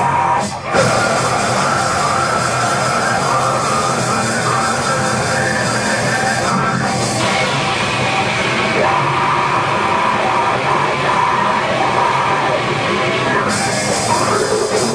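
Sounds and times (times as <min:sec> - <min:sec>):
grindcore band playing live: 0:00.0 - 0:14.9.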